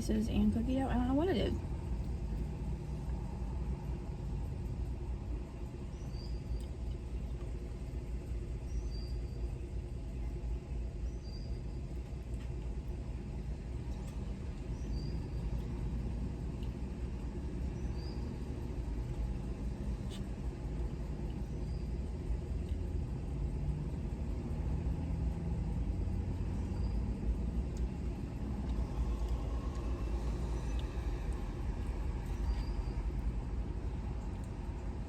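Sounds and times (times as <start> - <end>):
car idling low rumble: 0.0 - 35.0.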